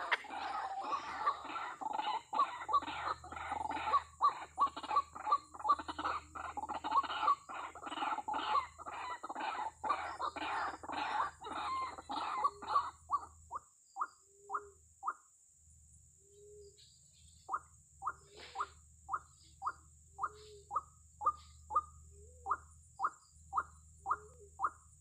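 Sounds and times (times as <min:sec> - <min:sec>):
bird calling in fast series: 0:00.0 - 0:15.4, 0:16.2 - 0:25.0.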